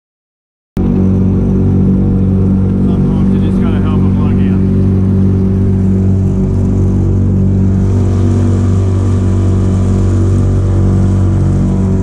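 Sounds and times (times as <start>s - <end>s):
outboard motor running: 0.8s - 12.0s.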